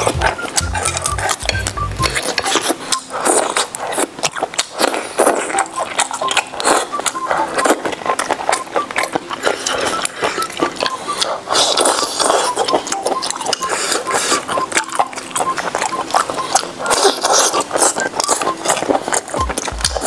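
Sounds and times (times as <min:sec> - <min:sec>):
wet chewing and slurping: 0:00.0 - 0:20.0.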